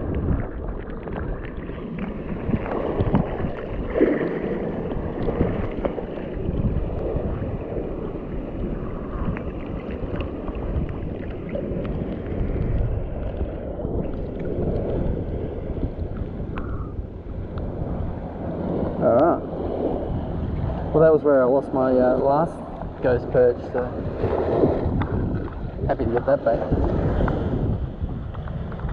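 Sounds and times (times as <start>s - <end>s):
water sloshing around wading person: 0.0s - 28.9s
wind buffeting microphone: 0.0s - 28.9s.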